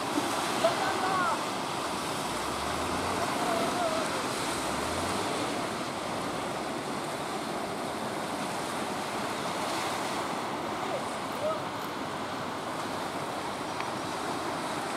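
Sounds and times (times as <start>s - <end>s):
surf breaking: 0.0s - 14.9s.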